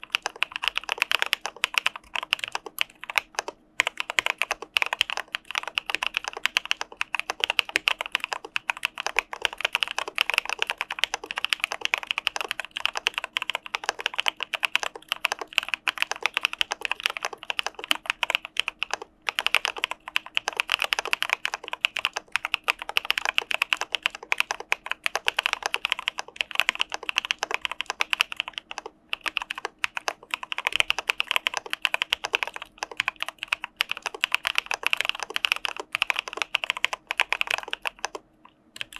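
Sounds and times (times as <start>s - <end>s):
mechanical keyboard typing: 0.0s - 38.2s.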